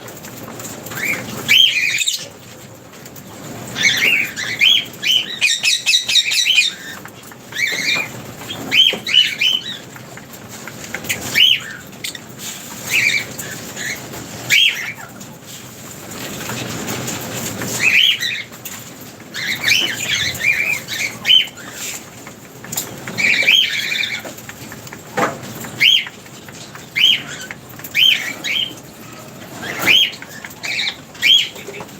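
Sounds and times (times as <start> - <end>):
lovebirds chirping and squawking: 0.2 - 31.9.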